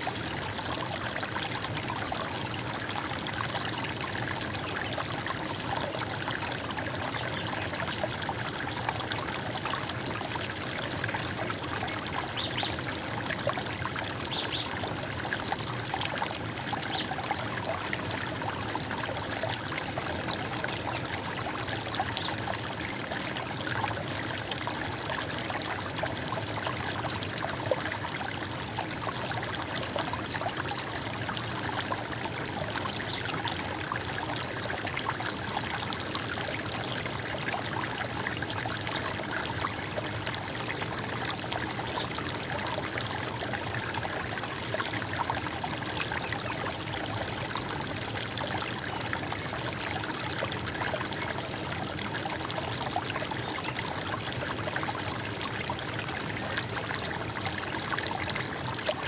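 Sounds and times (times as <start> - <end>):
stream flowing and trickling: 0.0 - 59.0.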